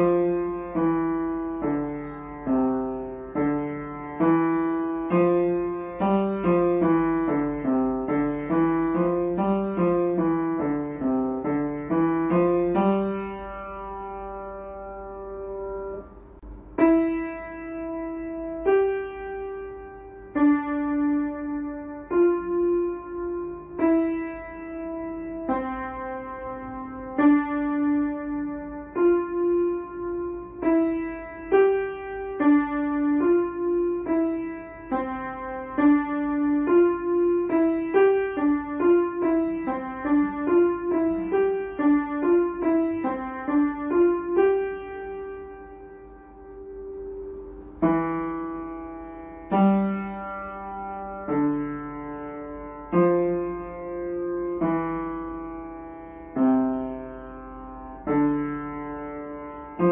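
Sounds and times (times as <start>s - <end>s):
piano playing: 0.0s - 59.9s.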